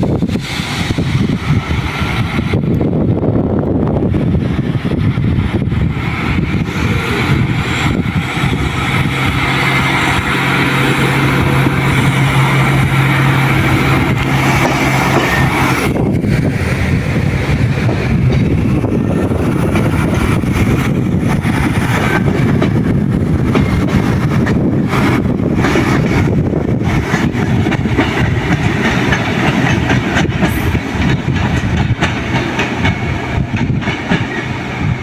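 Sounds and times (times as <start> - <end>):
train rushing noise: 0.0 - 35.0.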